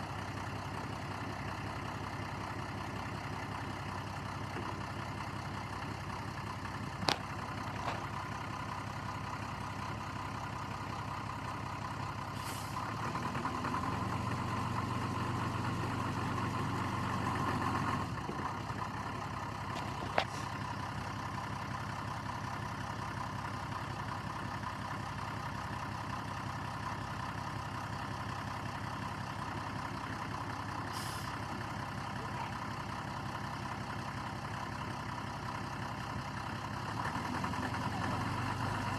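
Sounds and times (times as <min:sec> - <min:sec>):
heavy engine running: 0:00.0 - 0:38.9.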